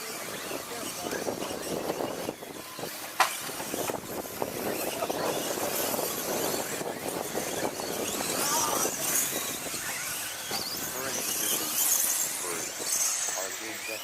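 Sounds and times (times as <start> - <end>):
toy truck motors whining: 0.0 - 14.0
tyre and chassis noise: 0.0 - 14.0.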